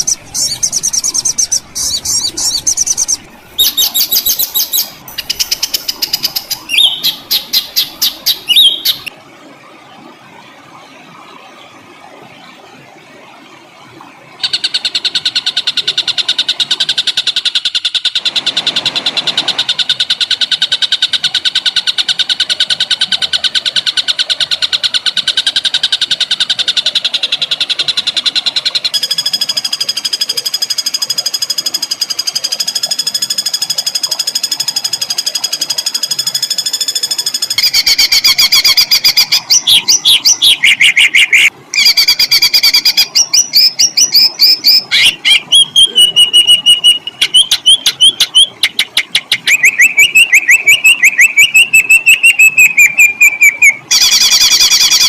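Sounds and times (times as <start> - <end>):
songbird rapid trill: 0.0 - 9.1, 14.4 - 55.0.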